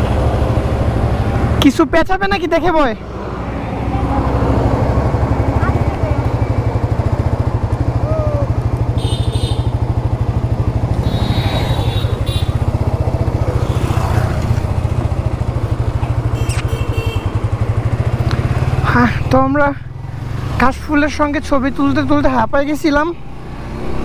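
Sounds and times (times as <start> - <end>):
motorcycle engine running: 0.0 - 22.4.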